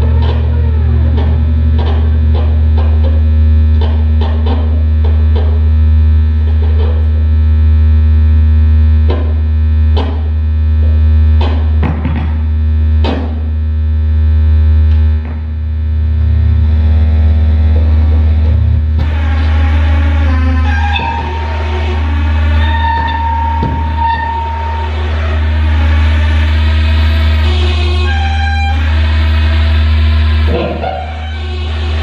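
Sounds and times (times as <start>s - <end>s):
low synthesizer drone: 0.0s - 32.0s.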